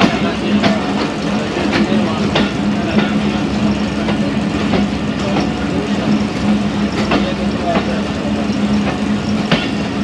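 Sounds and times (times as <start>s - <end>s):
diesel train engine idling: 0.0s - 10.0s.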